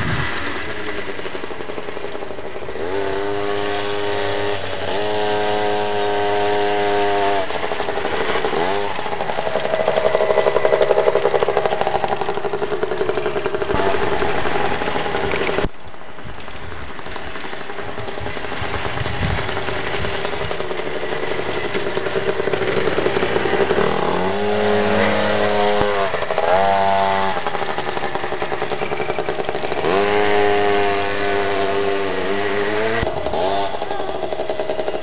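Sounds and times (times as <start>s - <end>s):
mini motocross bikes revving: 0.0s - 35.0s.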